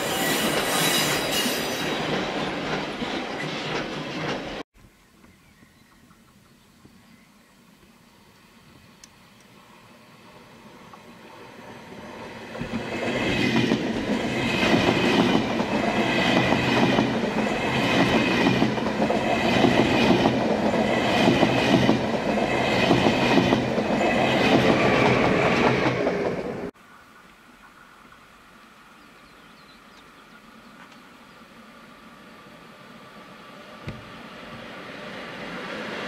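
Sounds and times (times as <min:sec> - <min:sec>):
passenger train passing: 0:00.0 - 0:04.6, 0:08.0 - 0:26.8, 0:30.4 - 0:36.0.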